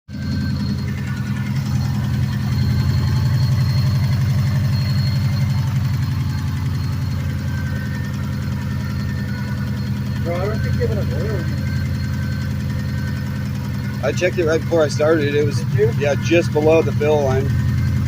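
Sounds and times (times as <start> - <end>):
car engine idling with rattle: 0.1 - 18.0.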